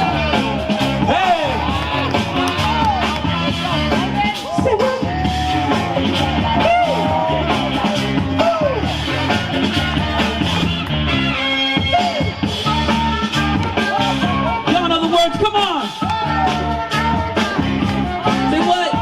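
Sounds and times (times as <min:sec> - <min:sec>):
loud music over sound system: 0:00.0 - 0:19.0.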